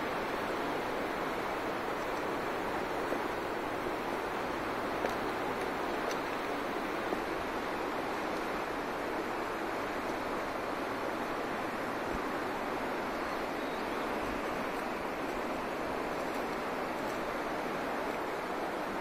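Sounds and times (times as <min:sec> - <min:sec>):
fast-flowing river rushing: 0:00.0 - 0:19.0.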